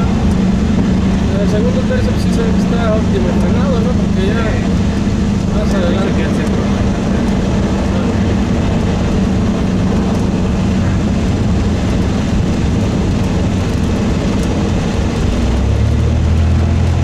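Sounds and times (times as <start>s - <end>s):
light aircraft engine and propeller: 0.0s - 17.0s.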